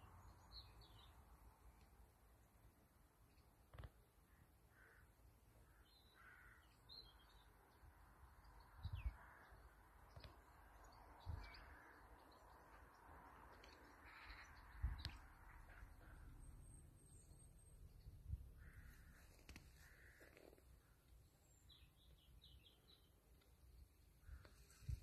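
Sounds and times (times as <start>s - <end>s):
distant bird calls: 3.3s - 25.0s.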